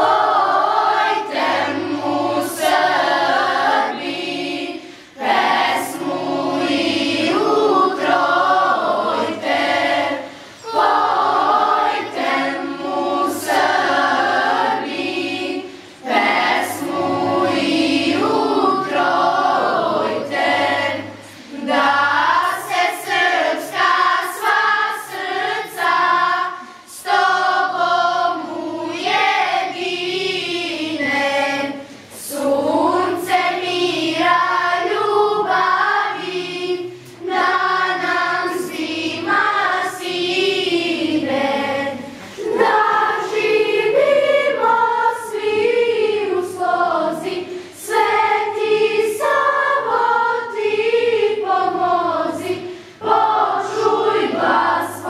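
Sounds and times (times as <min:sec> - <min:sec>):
children's choir singing: 0:00.0 - 0:55.0.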